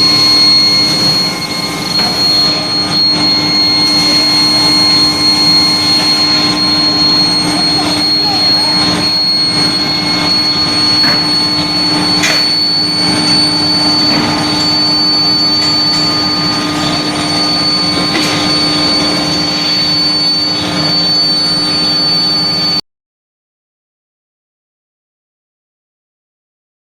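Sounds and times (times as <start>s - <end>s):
high whine: 0.0s - 22.8s
industrial machinery hum: 0.0s - 22.8s.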